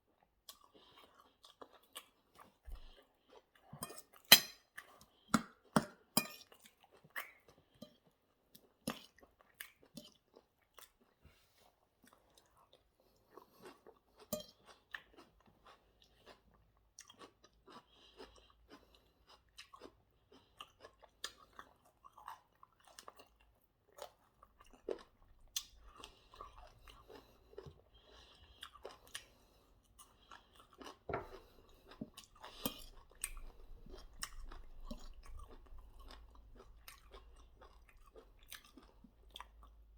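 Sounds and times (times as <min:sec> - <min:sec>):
person chewing and crunching food: 0:00.0 - 0:39.9.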